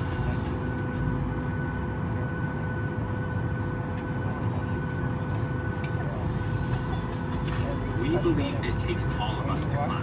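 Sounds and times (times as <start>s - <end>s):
airliner cabin rumble: 0.0s - 10.0s
steady whining tones: 0.0s - 10.0s.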